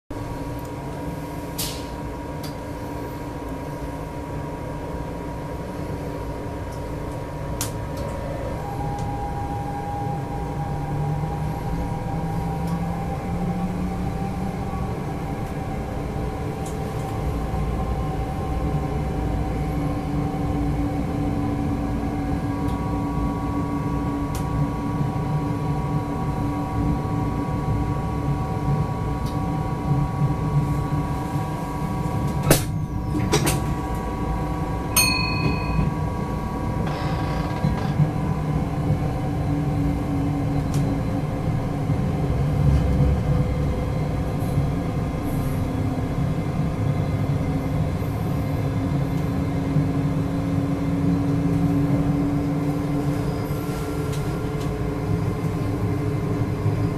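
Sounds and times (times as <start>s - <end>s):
train traction whine: 0.1s - 56.9s
train wheels rumbling on rails: 0.1s - 56.9s.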